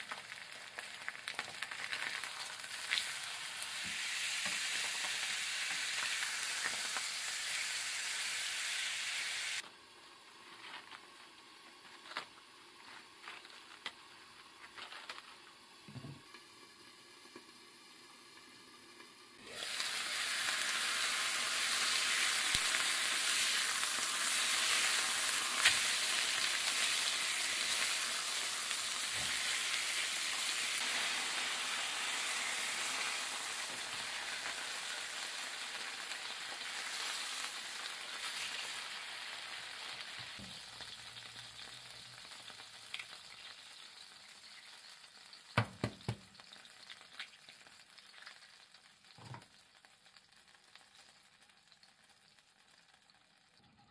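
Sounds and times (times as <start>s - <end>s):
meat sizzling in oil: 0.0s - 53.7s.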